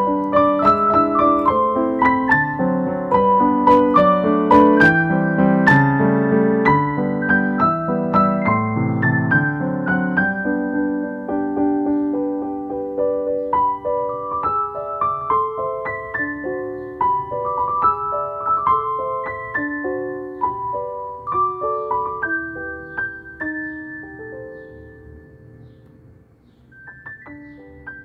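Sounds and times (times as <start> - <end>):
slow solo piano melody: 0.0 - 28.0.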